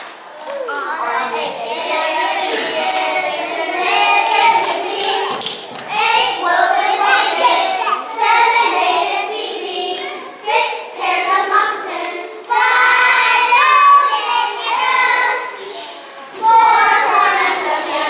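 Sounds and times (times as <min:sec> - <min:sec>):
children singing: 0:00.0 - 0:18.0.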